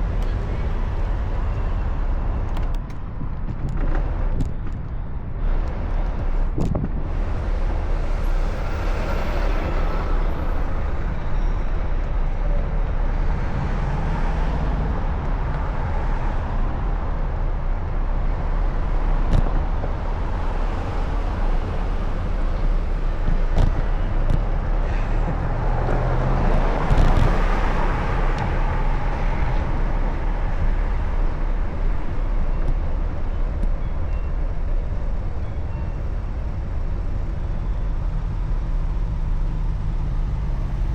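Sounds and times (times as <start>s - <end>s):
passing cars and road noise: 0.0s - 40.9s
wind on microphone: 0.0s - 40.9s.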